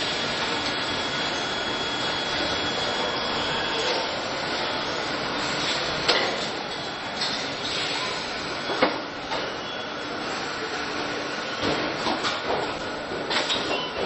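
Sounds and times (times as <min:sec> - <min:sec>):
factory machinery hissing hum: 0:00.0 - 0:14.0.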